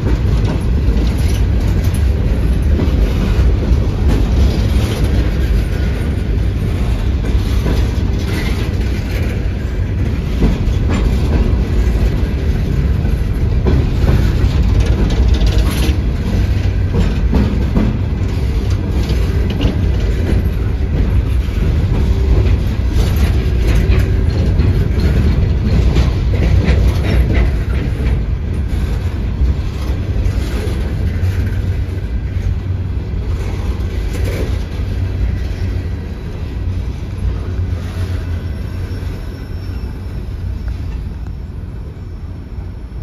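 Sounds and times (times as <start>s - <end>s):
freight train wheels clattering: 0.0s - 43.0s.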